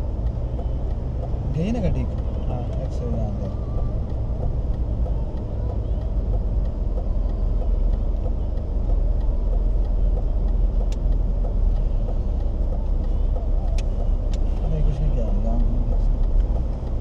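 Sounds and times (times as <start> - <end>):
diesel engine and tyres rumbling: 0.0 - 17.0.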